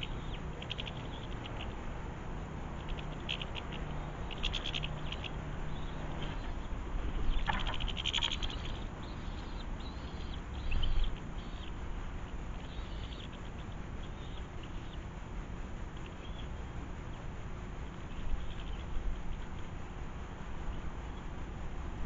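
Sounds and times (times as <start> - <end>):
birds chirping and twittering: 0.0 - 21.7.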